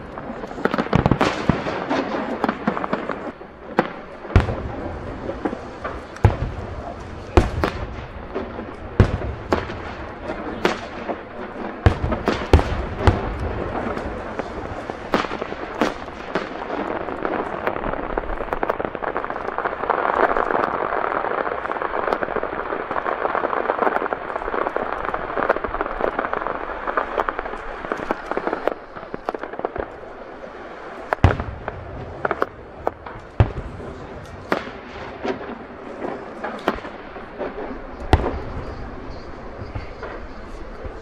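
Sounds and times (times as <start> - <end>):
firework crackling: 0.0 - 41.0.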